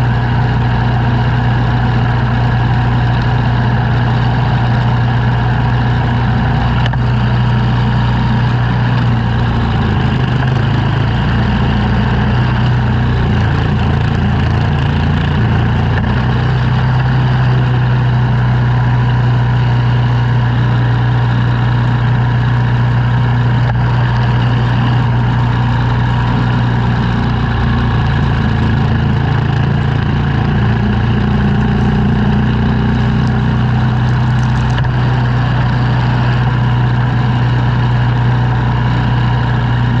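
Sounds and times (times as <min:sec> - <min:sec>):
snow-clearing machine engine humming: 0:00.0 - 0:40.0.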